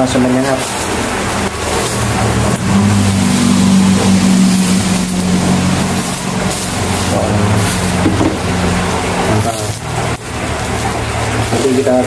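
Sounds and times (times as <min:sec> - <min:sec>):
low motor hum: 0:00.0 - 0:11.6.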